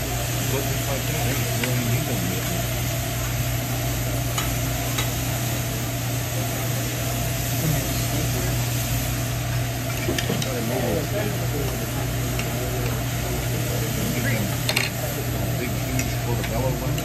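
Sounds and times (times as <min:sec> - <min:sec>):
meat sizzling on a griddle: 0:00.0 - 0:17.0
steady low hum: 0:00.0 - 0:17.0.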